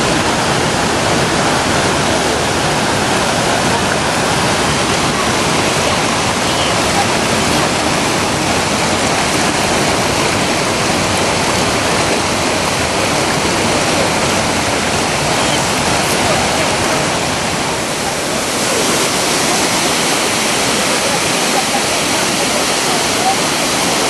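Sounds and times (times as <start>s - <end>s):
waterfall rushing over rocks: 0.0s - 24.0s.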